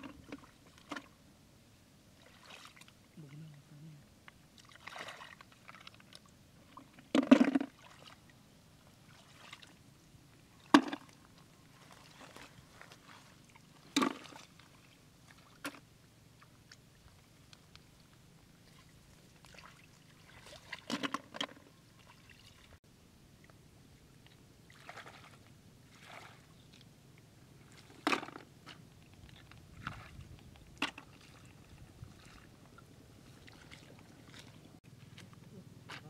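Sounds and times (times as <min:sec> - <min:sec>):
shallow water splashing: 0:02.1 - 0:03.0, 0:04.5 - 0:22.8, 0:24.2 - 0:26.8, 0:27.5 - 0:36.0.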